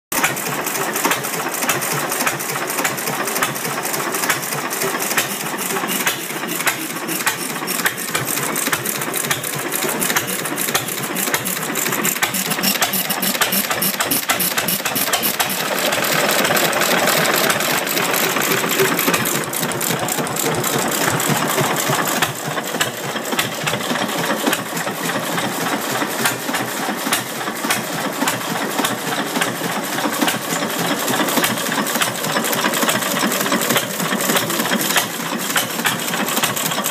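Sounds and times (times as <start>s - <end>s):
stationary engine running: 0.1s - 36.9s.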